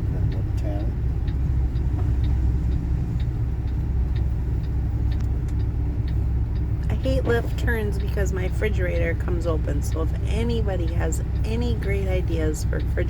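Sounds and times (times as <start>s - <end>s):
vehicle cabin road rumble: 0.0s - 13.0s.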